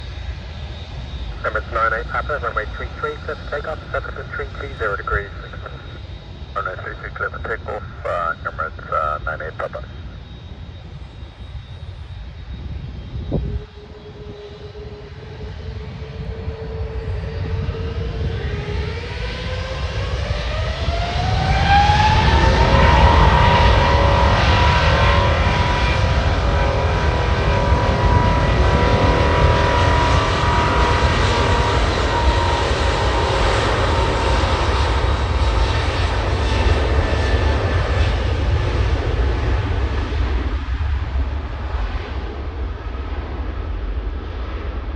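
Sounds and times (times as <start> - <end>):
jet engines whining and roaring: 0.0 - 44.9.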